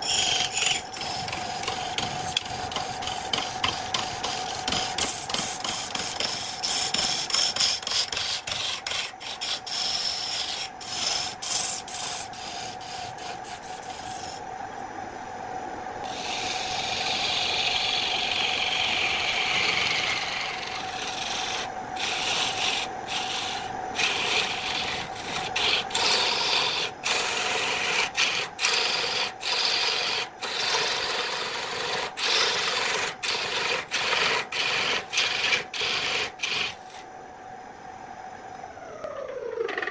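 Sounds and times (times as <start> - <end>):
lathe humming: 0.0 - 14.4, 16.0 - 37.0
tool shaving wood on lathe: 0.0 - 14.4, 16.1 - 37.0.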